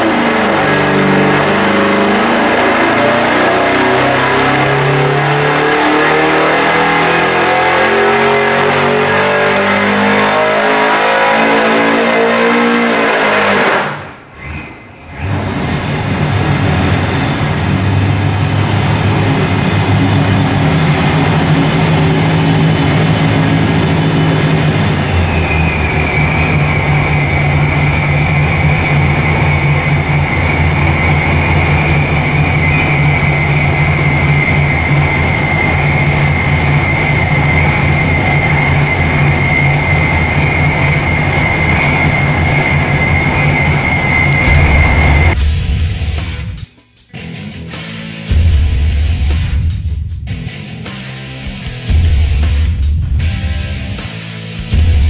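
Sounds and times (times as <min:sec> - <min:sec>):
engine running steadily: 0:00.0 - 0:46.7, 0:48.3 - 0:55.0
high steady whine: 0:00.0 - 0:46.8, 0:51.1 - 0:55.0.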